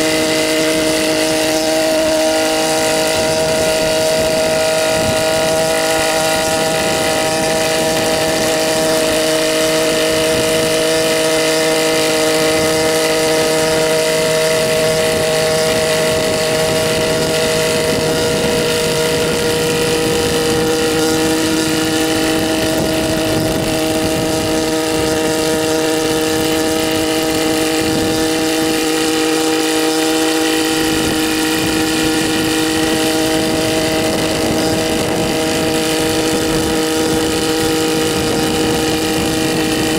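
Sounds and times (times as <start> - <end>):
small helicopter engine and rotors: 0.0 - 39.9.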